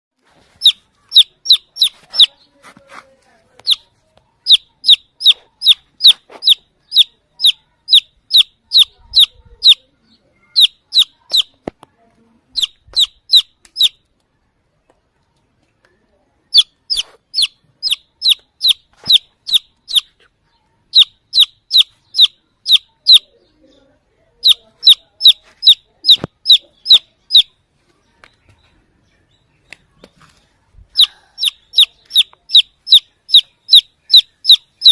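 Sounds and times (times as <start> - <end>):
baby chick peeping: 0.2 - 14.2, 14.8 - 34.9.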